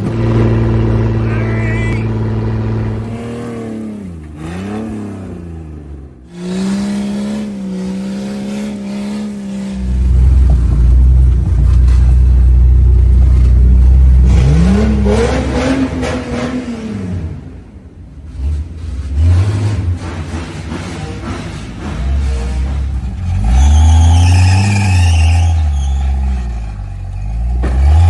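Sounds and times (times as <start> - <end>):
engine revving: 0.0 - 28.0.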